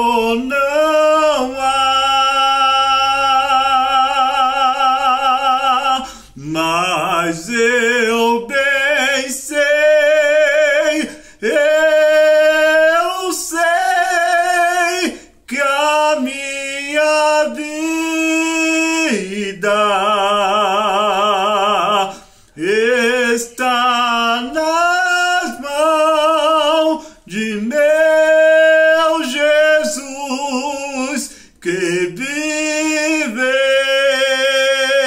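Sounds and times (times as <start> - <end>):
man singing unaccompanied: 0.0 - 35.0.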